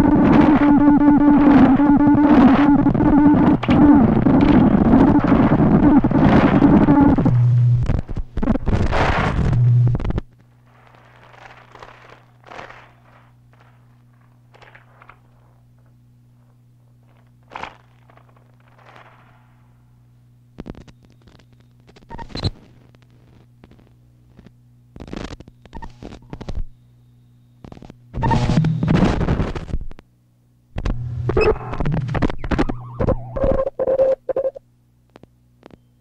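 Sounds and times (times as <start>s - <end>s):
clicks and crackles: 0.0s - 19.7s, 20.5s - 26.8s, 27.6s - 30.1s, 30.8s - 35.9s
low electrical hum: 0.0s - 36.0s.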